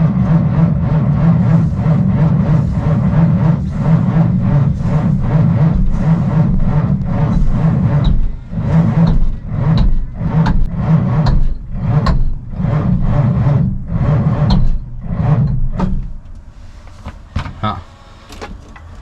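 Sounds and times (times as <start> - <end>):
starter cranking diesel engine: 0.0 - 19.0.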